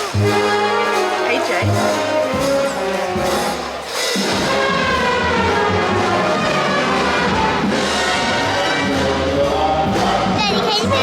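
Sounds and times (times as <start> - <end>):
live band playing music: 0.0 - 11.0.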